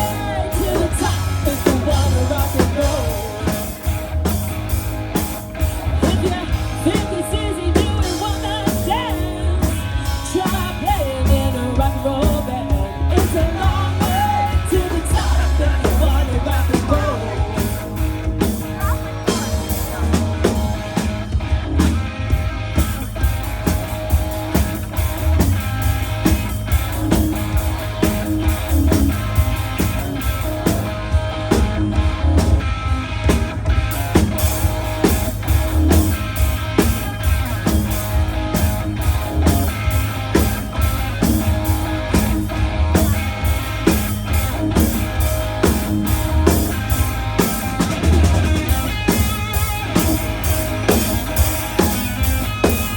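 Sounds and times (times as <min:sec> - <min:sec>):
live rock band playing: 0:00.0 - 0:52.9
sung lead melody: 0:00.0 - 0:52.9.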